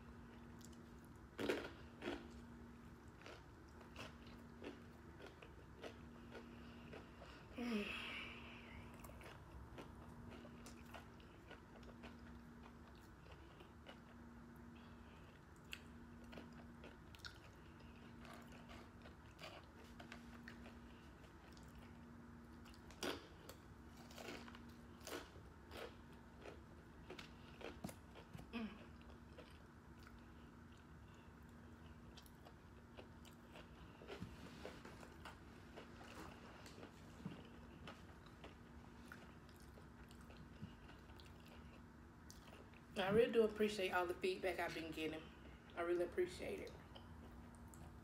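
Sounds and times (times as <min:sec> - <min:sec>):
chewing and crunching: 0:00.0 - 0:07.5, 0:08.4 - 0:43.0, 0:46.7 - 0:48.0
faint pulsing low hum: 0:00.0 - 0:48.0.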